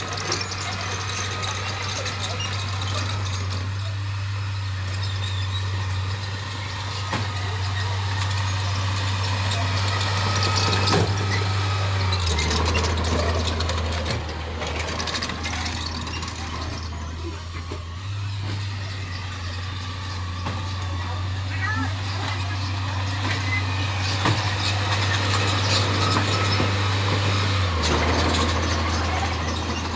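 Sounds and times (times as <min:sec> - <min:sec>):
heavy diesel engine droning: 0:00.0 - 0:29.9
metal clanks and rattle: 0:00.0 - 0:29.9.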